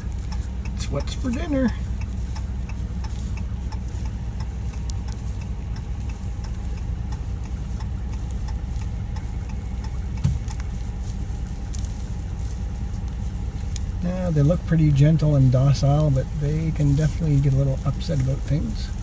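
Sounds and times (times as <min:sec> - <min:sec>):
faint ticks: 0:00.0 - 0:19.0
truck engine idling: 0:00.0 - 0:19.0.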